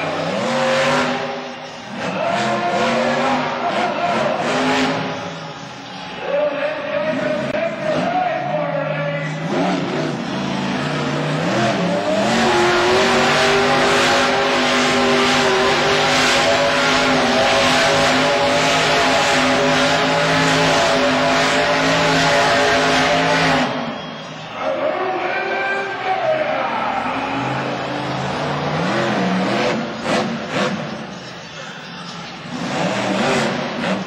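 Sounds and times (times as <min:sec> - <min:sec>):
monster truck engines at full throttle: 0:00.0 - 0:34.0.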